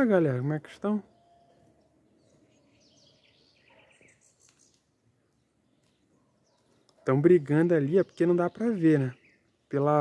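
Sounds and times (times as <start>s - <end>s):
faint high bird chirps: 1.0s - 7.2s, 7.8s - 9.8s.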